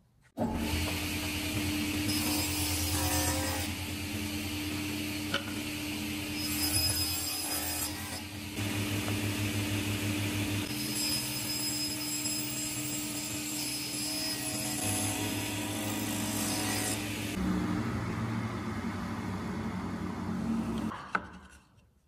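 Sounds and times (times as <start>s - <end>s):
power tool cutting wood: 0.4s - 20.9s.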